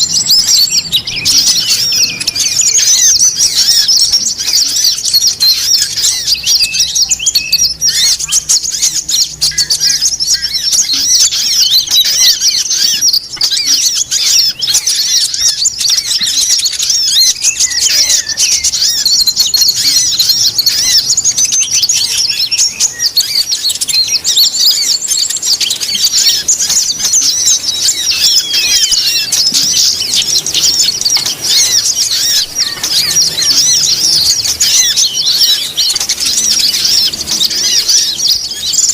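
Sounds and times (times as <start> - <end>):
falling whistled bird notes: 0.0 - 38.9
songbirds chirping chorus: 0.0 - 38.9.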